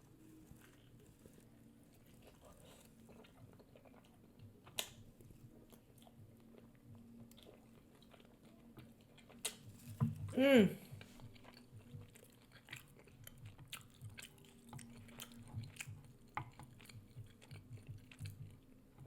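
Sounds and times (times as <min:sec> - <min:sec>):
chewing and mouth sounds: 0:02.0 - 0:10.2, 0:10.9 - 0:19.0.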